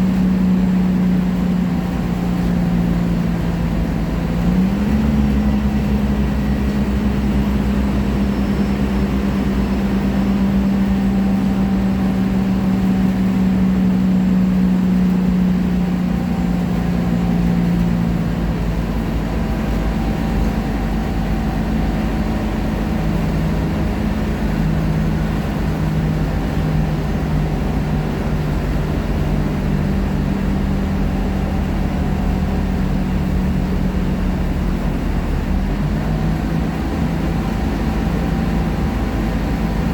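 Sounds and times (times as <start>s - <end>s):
bus engine drone: 0.0s - 39.9s
road rumble: 0.0s - 39.9s.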